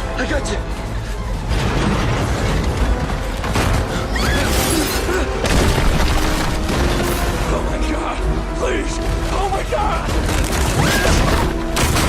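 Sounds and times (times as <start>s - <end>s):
dramatic film score: 0.0s - 12.0s
rumbling and booming destruction: 0.0s - 12.0s.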